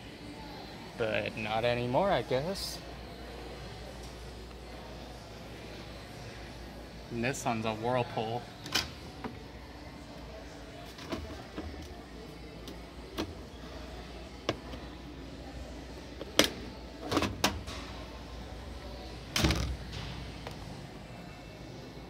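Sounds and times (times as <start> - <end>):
steady low background hum: 0.0 - 22.0.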